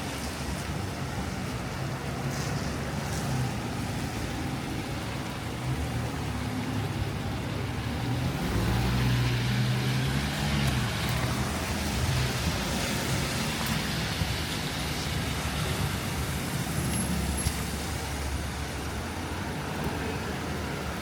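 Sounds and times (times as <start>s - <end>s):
tyres hissing on wet road: 0.0s - 21.0s
vehicle engines humming: 0.0s - 21.0s.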